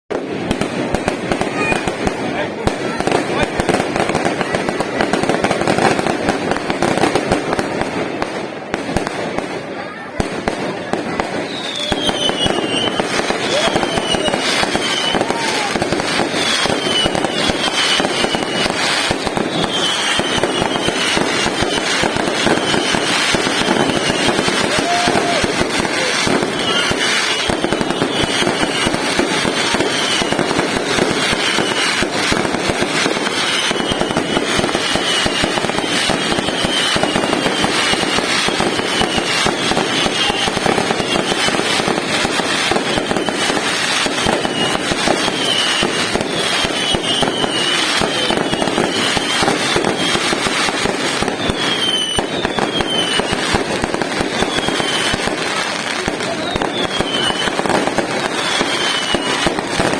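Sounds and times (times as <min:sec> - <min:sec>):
fireworks crackling: 0:00.1 - 0:59.9
firework whistles falling in pitch: 0:11.3 - 0:59.9.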